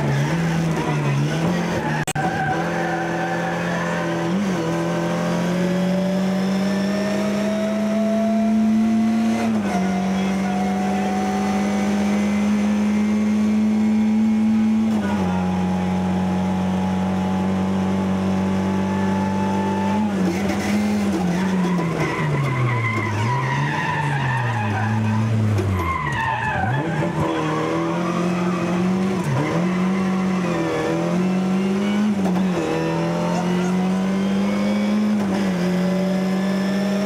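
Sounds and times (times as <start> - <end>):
rally car engine at high revs: 0.0 - 37.0.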